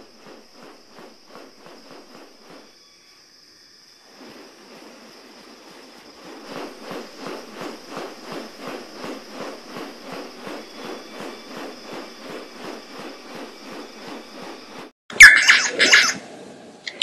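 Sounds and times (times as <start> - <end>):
rhythmic bird wing swishing: 0.0 - 16.2.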